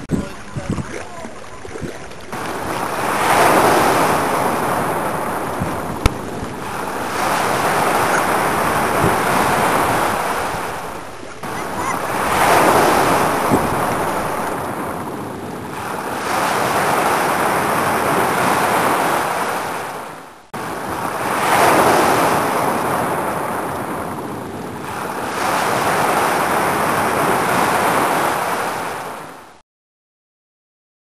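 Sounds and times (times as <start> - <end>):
small waves washing on beach: 0.0 - 29.5.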